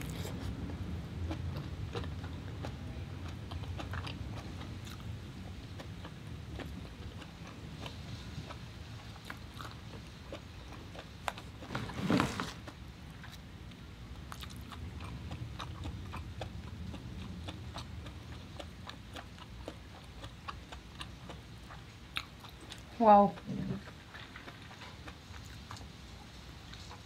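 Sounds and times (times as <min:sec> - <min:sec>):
wet mouth chewing sounds: 0:00.0 - 0:11.9, 0:14.2 - 0:27.0.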